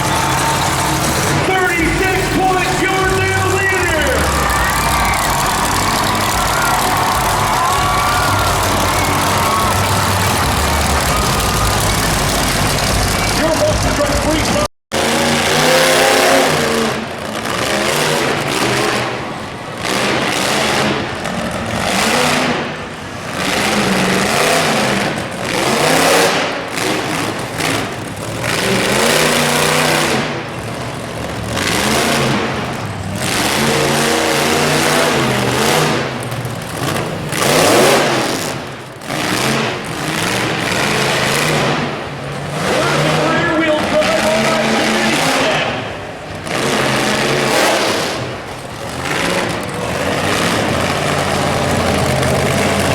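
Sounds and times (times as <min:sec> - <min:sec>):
monster truck engine revving: 0:00.0 - 0:52.9.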